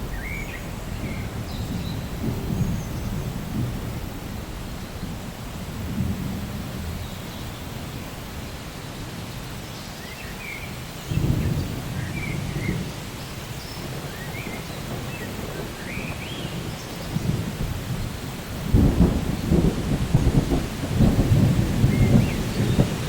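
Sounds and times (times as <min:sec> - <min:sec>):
thunder rumbling: 0:00.0 - 0:08.6, 0:11.0 - 0:23.0
steady rain: 0:00.0 - 0:23.0.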